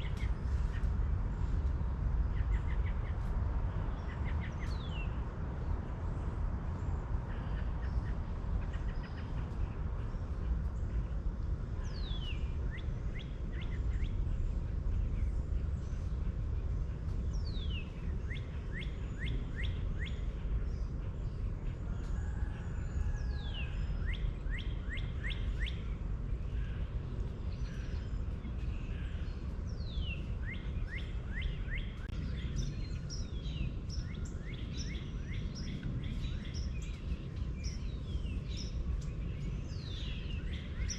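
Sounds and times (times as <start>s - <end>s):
songbird singing: 0.0s - 40.9s
steady low rumble: 0.0s - 40.9s.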